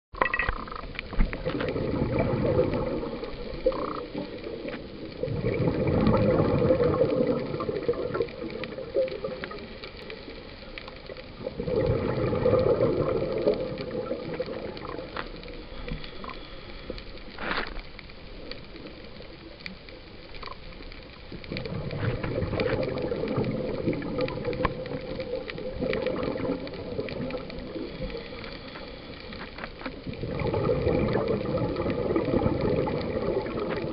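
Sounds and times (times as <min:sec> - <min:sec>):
reef clicks and crackle: 0:00.1 - 0:33.9
exhaled bubbles gurgling underwater: 0:00.2 - 0:33.9.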